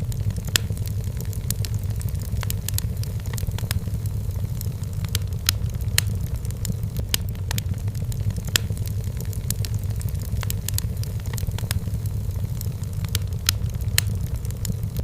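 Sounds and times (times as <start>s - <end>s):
firewood crackling: 0.0s - 15.0s.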